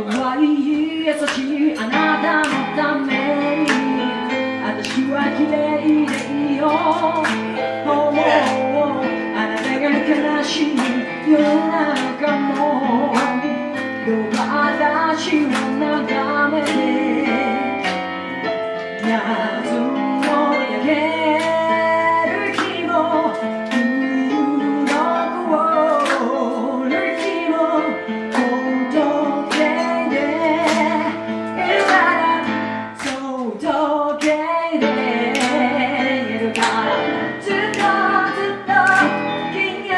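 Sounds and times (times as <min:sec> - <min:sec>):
keyboard accompaniment: 0:00.0 - 0:39.9
woman singing into microphone: 0:00.0 - 0:39.9.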